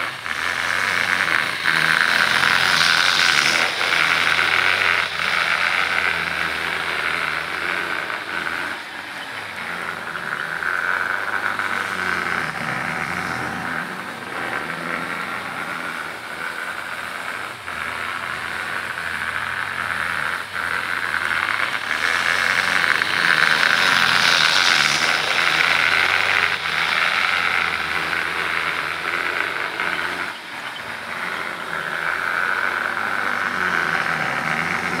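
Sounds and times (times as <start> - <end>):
small electric motor whining: 0.0 - 35.0
wheels clicking over rail joints: 0.0 - 35.0.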